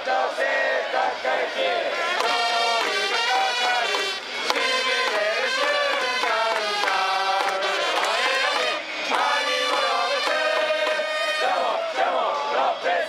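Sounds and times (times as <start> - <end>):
crowd singing a cheer song: 0.0 - 13.0.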